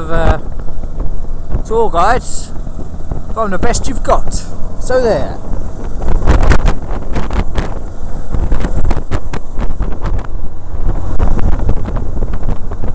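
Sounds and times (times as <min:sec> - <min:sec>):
motorcycle road and engine rumble: 0:00.0 - 0:12.9
wind buffeting microphone: 0:00.0 - 0:12.9.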